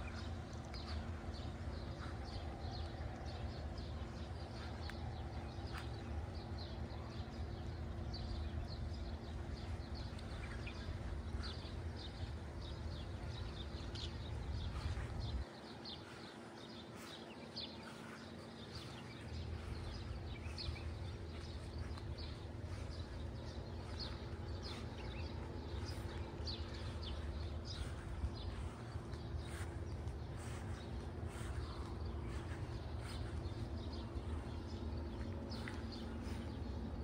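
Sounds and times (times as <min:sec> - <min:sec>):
faint steady hum: 0:00.0 - 0:37.0
low wind-like rumble: 0:00.0 - 0:37.0
small birds chirping: 0:00.0 - 0:37.0.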